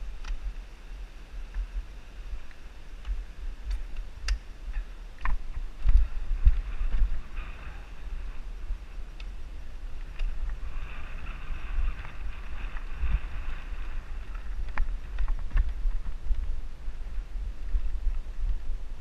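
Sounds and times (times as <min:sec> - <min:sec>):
wind buffeting microphone: 0:00.0 - 0:19.0
bike clicks and rattles: 0:01.4 - 0:18.7.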